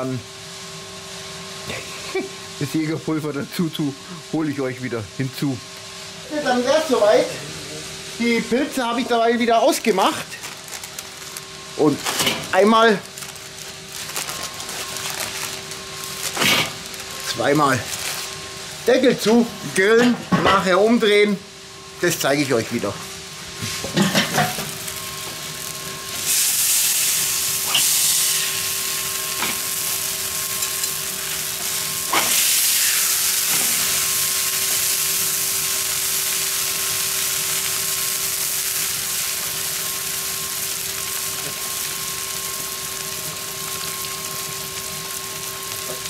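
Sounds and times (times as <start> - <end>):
burger patties sizzling on grill: 0.0 - 46.0
steady hum: 0.0 - 46.0.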